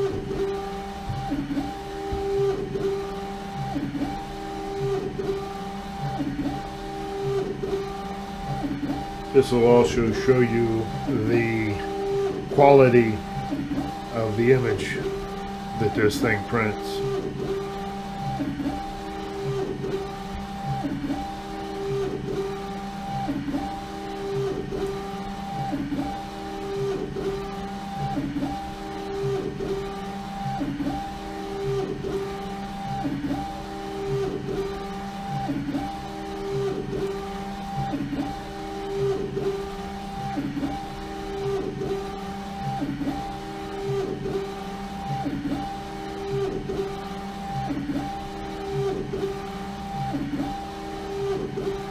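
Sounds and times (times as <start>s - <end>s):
printer carriage motor whine: 0.0s - 51.9s.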